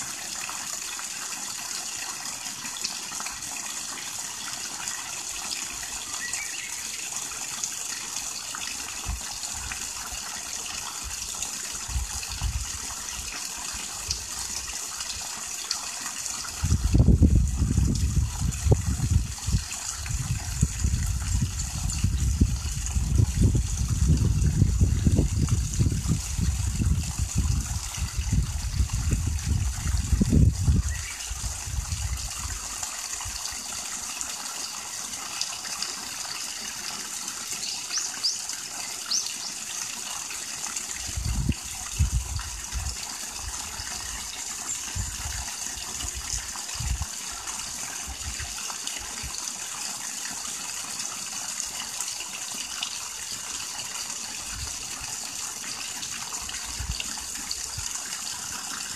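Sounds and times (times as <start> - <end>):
water gushing onto rocks: 0.0 - 58.9.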